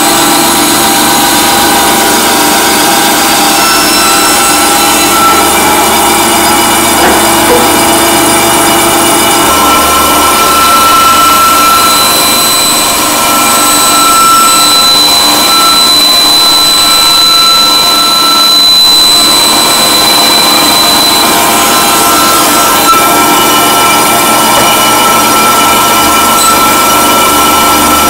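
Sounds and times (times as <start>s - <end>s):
band saw cutting: 0.0s - 28.0s.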